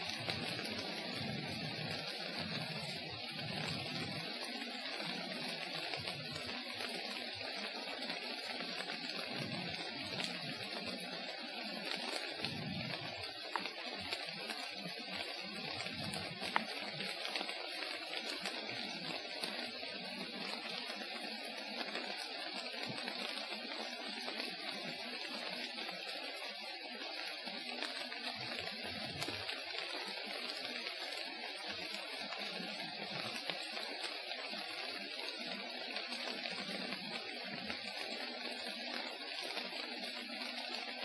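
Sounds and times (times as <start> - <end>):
rain falling on forest canopy: 0.0 - 41.0.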